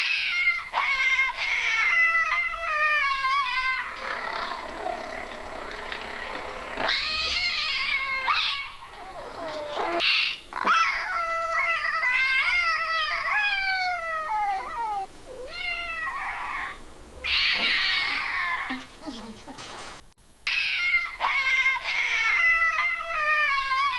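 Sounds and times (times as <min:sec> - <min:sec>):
cat yowling: 0:00.0 - 0:05.2, 0:06.8 - 0:18.8, 0:20.5 - 0:23.9.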